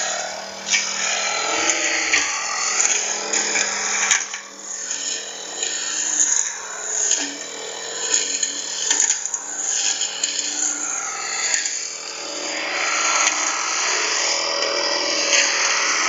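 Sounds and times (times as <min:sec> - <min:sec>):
brush cutter running: 0:00.0 - 0:16.0.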